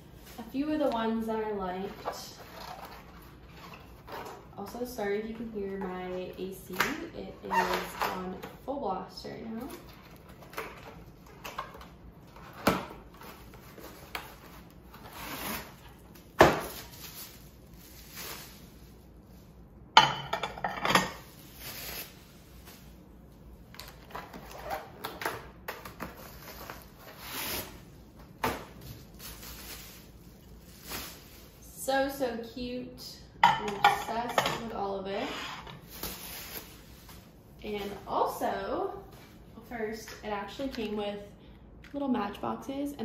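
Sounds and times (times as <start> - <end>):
air conditioner hum: 0.0 - 43.0.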